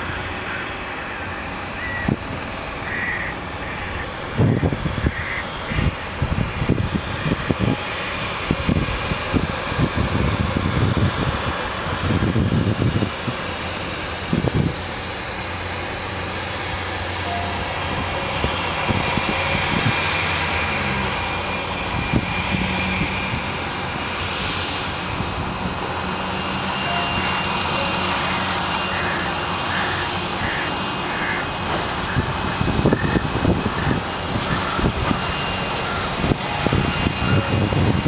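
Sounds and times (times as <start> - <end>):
jet engines whining while taxiing: 0.0 - 38.0.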